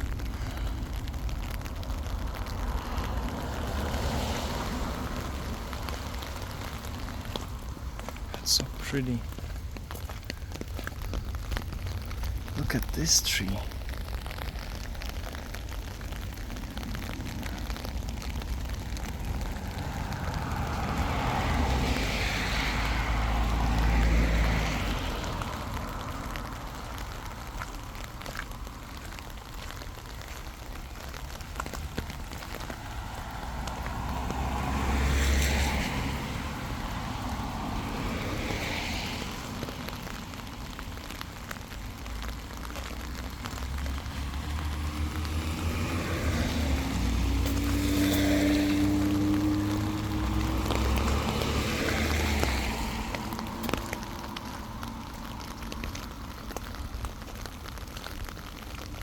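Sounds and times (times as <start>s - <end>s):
outdoor background noise: 0.0s - 59.0s
road vehicles passing by: 0.0s - 59.0s.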